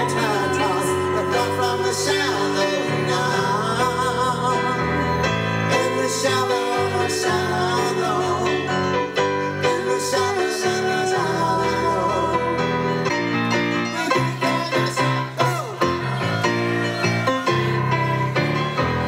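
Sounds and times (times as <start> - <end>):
man singing into a microphone: 0.0 - 18.3
stage piano chords: 0.0 - 19.0.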